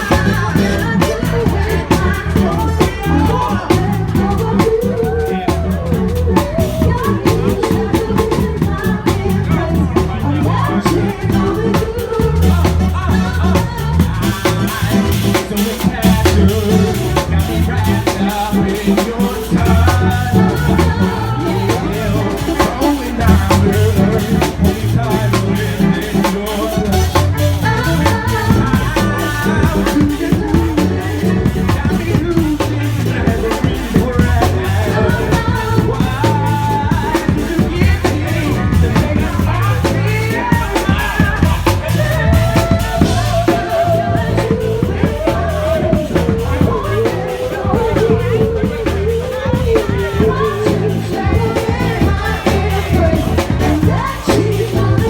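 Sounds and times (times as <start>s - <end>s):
bass line: 0.0s - 55.0s
drum beat: 0.0s - 55.0s
person singing: 0.0s - 55.0s.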